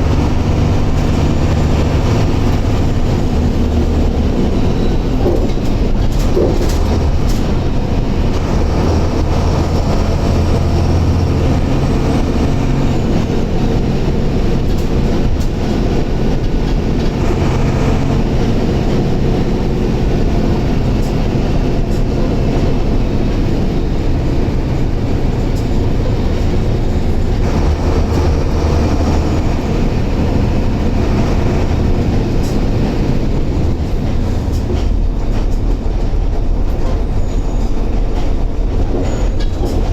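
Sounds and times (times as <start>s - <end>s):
bus diesel engine drone: 0.0s - 39.9s
road and body rattle: 0.0s - 39.9s.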